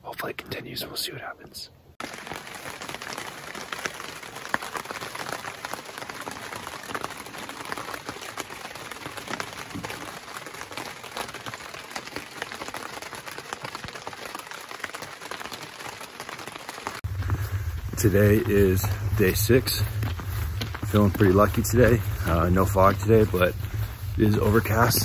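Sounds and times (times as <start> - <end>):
rain pattering on canvas: 2.0 - 25.0.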